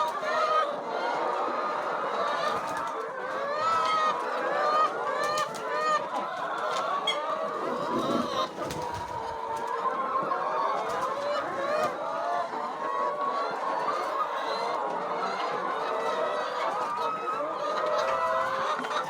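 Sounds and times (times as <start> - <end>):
flock of chickens calling: 0.0 - 19.0.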